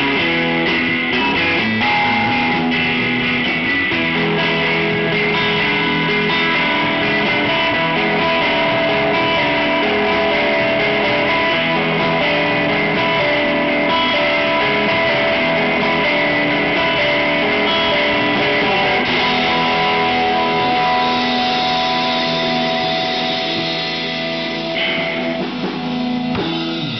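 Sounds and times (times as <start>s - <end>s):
live rock band playing: 0.0s - 26.9s.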